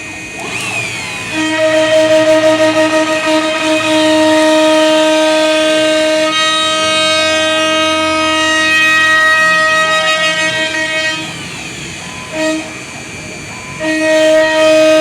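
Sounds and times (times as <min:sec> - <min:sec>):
wood router whining: 0:00.0 - 0:15.0.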